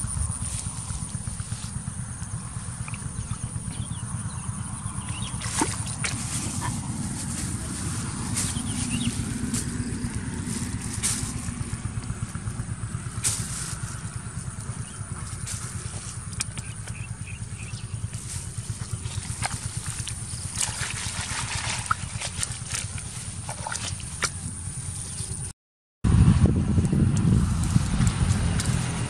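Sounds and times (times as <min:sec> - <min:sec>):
small engine running: 0:00.0 - 0:25.5, 0:26.1 - 0:29.0.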